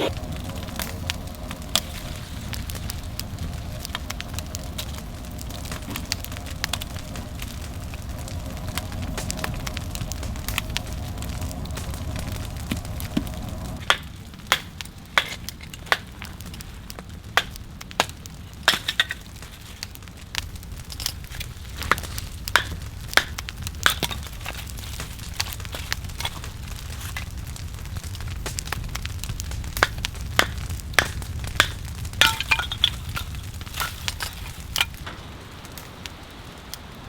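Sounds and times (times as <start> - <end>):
fire low rush: 0.0 - 37.0
firewood crackling: 0.0 - 37.0
sharp pops of fire: 0.0 - 37.0.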